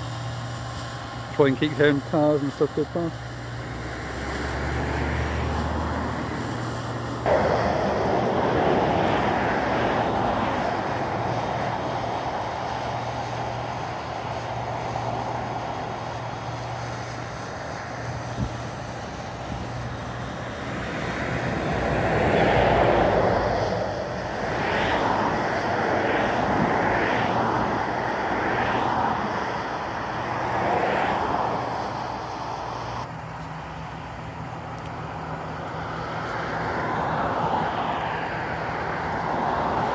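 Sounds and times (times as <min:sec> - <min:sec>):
steady low traffic hum: 0:00.0 - 0:39.9
vehicles passing: 0:00.0 - 0:39.9.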